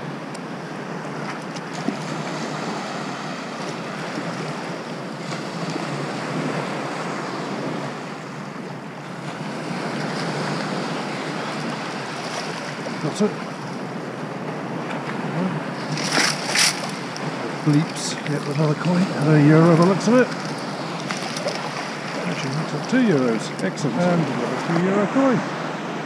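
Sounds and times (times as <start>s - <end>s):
sea surf sloshing: 0.0s - 26.0s.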